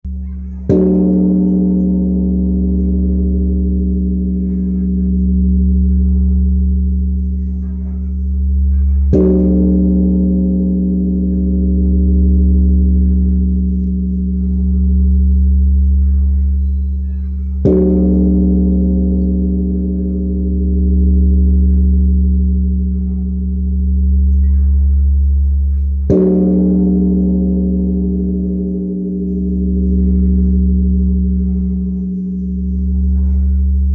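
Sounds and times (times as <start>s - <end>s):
deep humming bell ring: 0.1s - 33.9s
large bronze bell struck: 0.1s - 33.9s.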